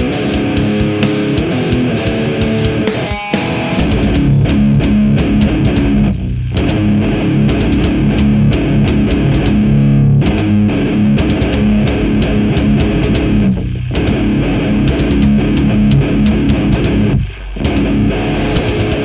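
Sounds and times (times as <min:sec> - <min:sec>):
drum and cymbal hits: 0:00.0 - 0:19.0
electric guitar playing: 0:00.0 - 0:19.0.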